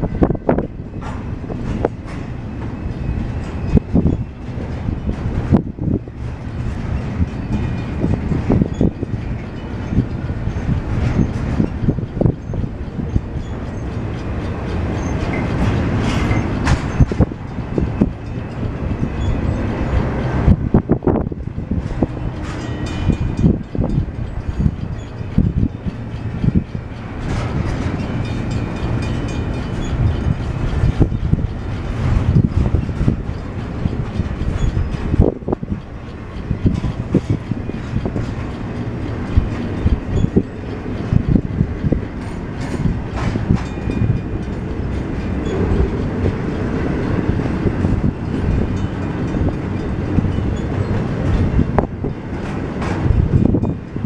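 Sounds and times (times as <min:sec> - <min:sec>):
sharp knocks of rail cars: 0:00.0 - 0:54.0
train wheels rumbling on rail: 0:00.0 - 0:54.0
high squealing of wheels: 0:01.7 - 0:05.2, 0:06.6 - 0:54.0.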